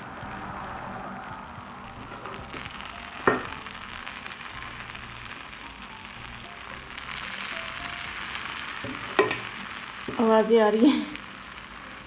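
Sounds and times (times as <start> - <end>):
pastry sizzling and crackling: 0.0 - 12.0
soft background music: 0.0 - 12.0.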